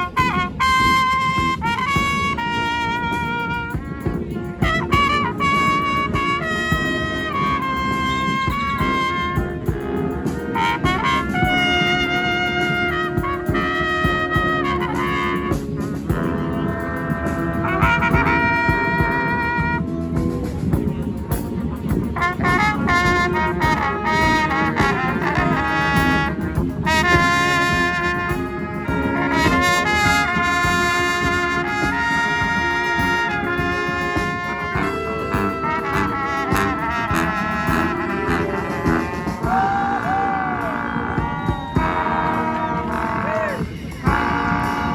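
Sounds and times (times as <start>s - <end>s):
percussion beat: 0.0s - 44.9s
trumpets and trombones: 0.0s - 44.9s.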